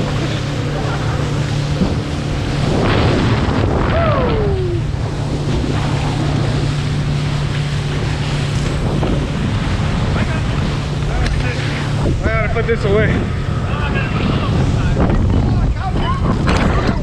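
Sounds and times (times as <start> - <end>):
boat motor running: 0.0 - 17.0
water rushing past hull: 0.0 - 17.0
wind buffeting the microphone: 0.0 - 17.0.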